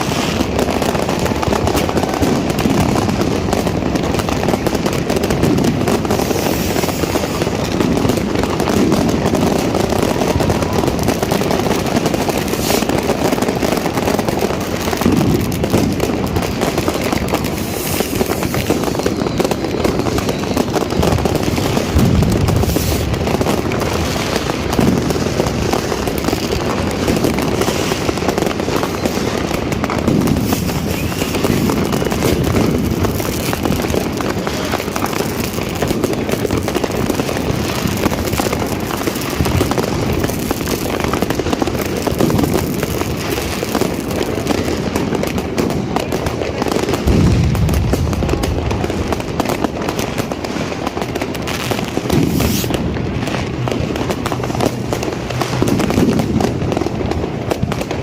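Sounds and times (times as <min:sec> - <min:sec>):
deep firework booms: 0:00.0 - 0:58.0
firecrackers crackling: 0:00.0 - 0:58.0.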